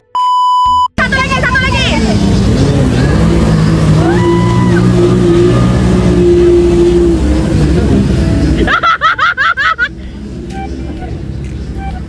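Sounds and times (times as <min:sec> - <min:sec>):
jet ski engine passing: 0:01.0 - 0:10.9.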